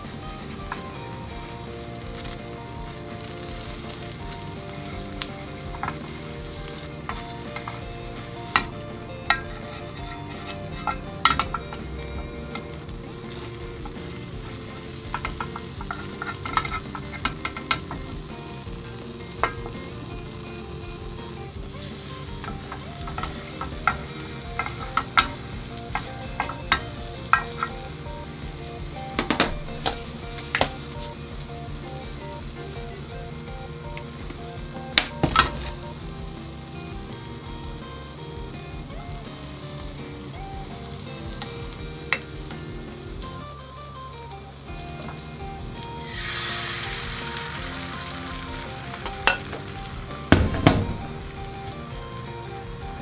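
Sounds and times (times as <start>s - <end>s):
egg sizzling in a pan: 0.0s - 53.0s
turner tapping and scraping pan: 0.0s - 53.0s.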